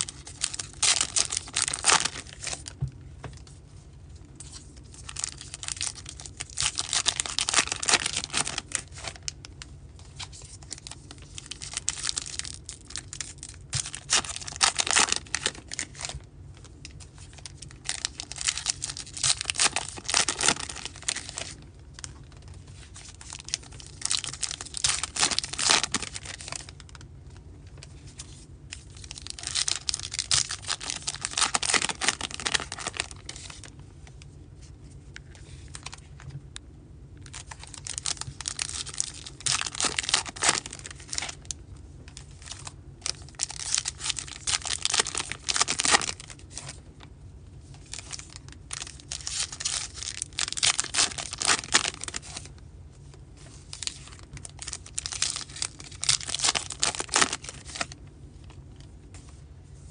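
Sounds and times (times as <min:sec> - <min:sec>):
card wrappers torn and crinkling: 0:00.0 - 0:02.8, 0:04.3 - 0:27.1, 0:27.9 - 0:33.7, 0:37.2 - 0:46.8, 0:47.7 - 0:52.6, 0:53.4 - 0:58.9.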